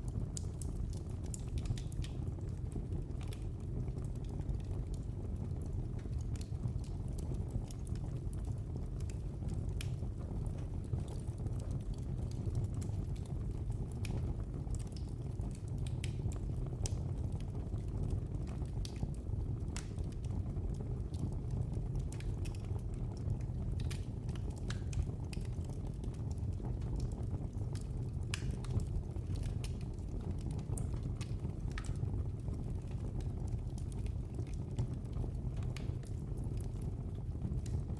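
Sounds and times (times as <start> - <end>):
fire crackling and popping: 0.0 - 37.9
low rumble of flame: 0.0 - 37.9.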